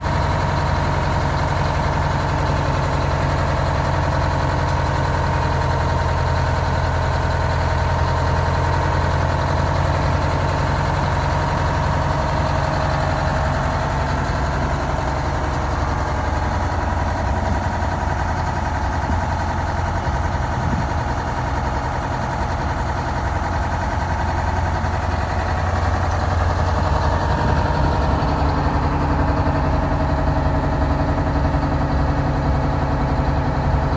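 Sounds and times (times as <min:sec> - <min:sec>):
fire engine idling: 0:00.0 - 0:33.9.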